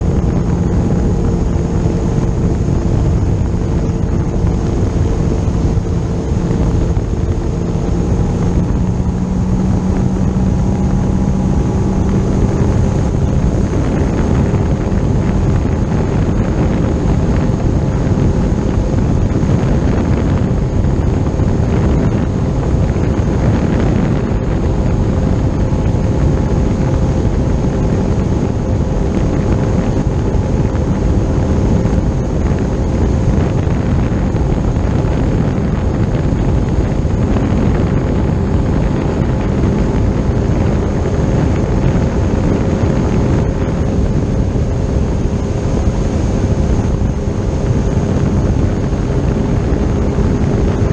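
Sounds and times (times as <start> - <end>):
boat engine drone: 0.0 - 50.9
wind noise on microphone: 0.0 - 50.9.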